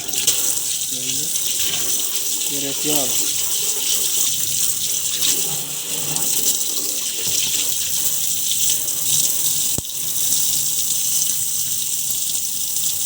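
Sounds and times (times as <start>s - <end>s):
water running with hiss: 0.0s - 13.0s.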